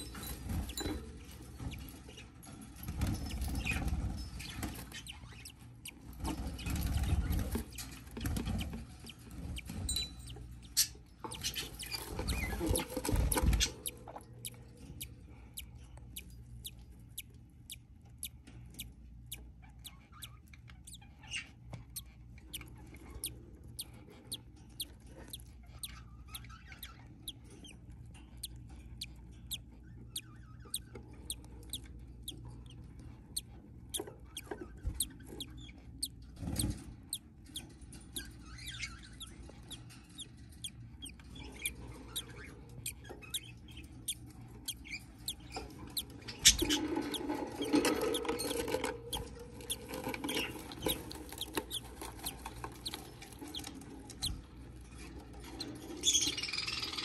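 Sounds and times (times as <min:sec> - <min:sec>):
chicks cheeping: 0:00.0 - 0:57.0.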